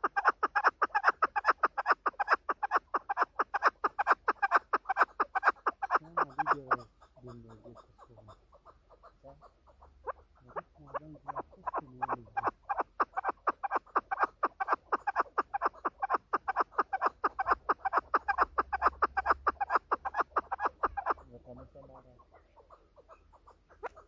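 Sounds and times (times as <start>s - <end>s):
partridge clucking: 0.0s - 24.0s.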